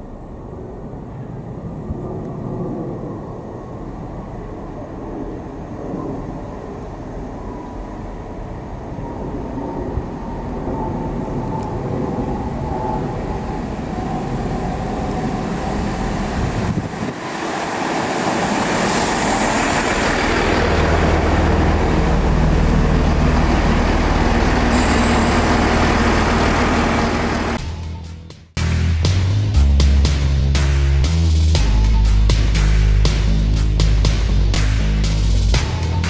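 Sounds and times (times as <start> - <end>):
low engine hum: 0.0 - 36.0
diesel train pulling into platform: 3.1 - 36.0.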